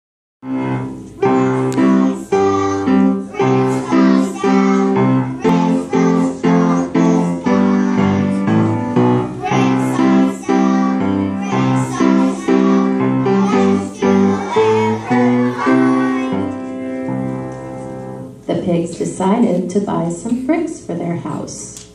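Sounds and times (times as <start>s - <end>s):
keyboard chords: 0.4s - 18.5s.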